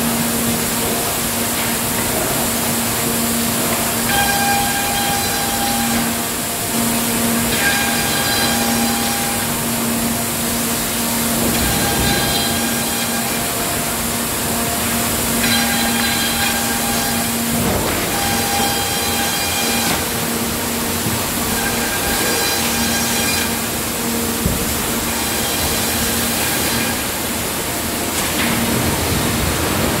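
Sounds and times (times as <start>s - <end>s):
machinery low hum: 0.0s - 30.0s
saw whine: 2.3s - 30.0s.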